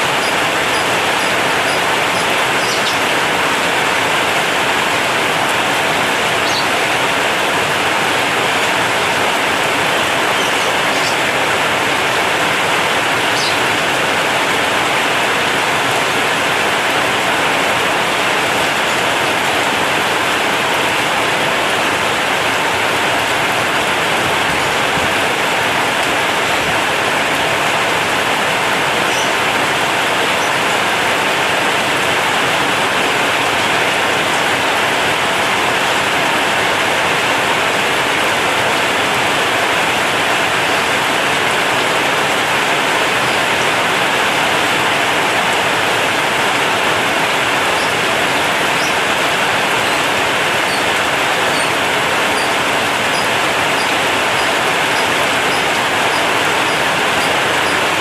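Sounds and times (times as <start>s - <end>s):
heavy rain on metal roof: 0.0s - 58.0s.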